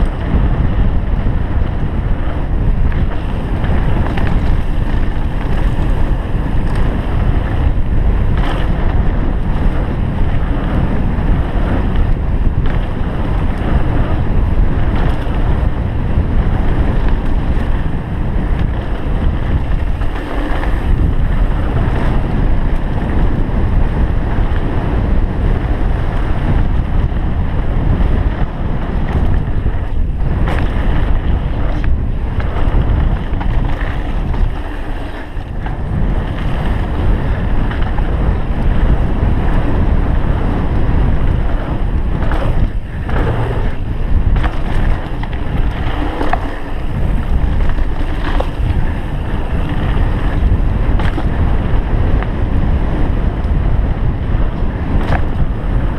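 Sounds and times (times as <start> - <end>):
bike knocking and rattling: 0.0 - 55.9
tyres rumbling on dirt trail: 0.0 - 55.9
wind rushing over microphone: 0.0 - 55.9.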